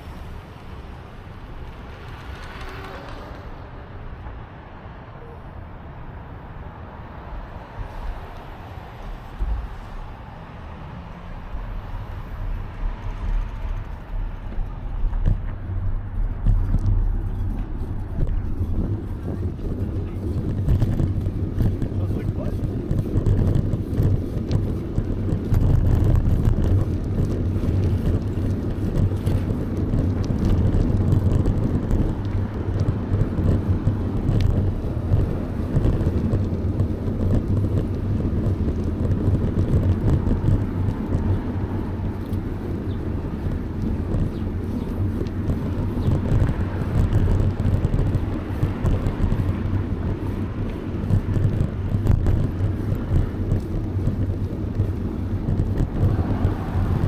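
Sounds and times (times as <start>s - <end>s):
bicycle riding rumble: 0.0s - 57.0s.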